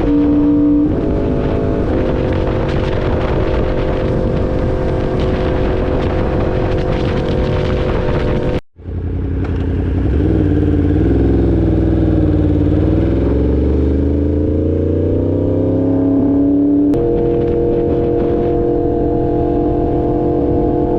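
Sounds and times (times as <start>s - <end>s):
wind rush: 0.0s - 8.6s, 10.0s - 20.9s
motorcycle engine running: 0.0s - 15.4s, 16.6s - 20.9s.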